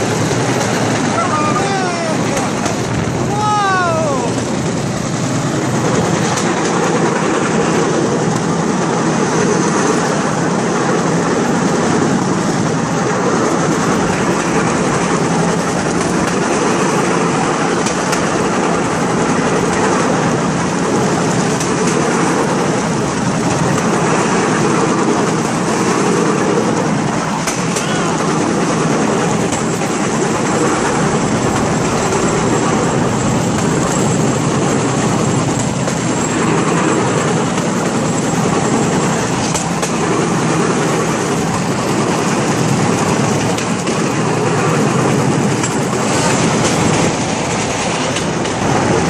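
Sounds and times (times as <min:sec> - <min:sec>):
steel wheels rattling on track: 0:00.0 - 0:49.0.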